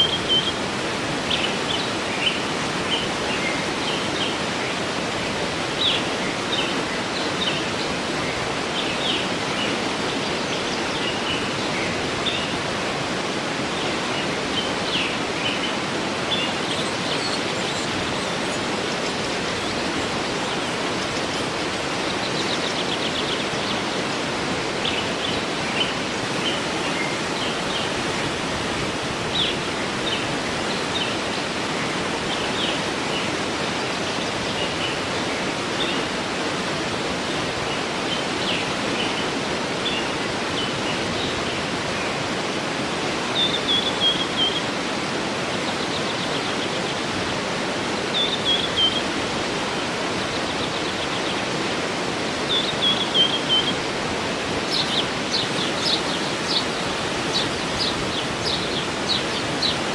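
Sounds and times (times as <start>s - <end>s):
songbirds chirping: 0.0s - 59.9s
waterfall rushing: 0.0s - 59.9s.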